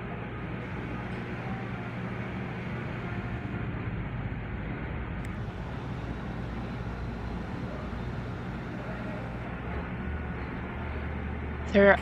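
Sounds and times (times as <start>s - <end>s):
ferry engine drone: 0.0s - 12.0s.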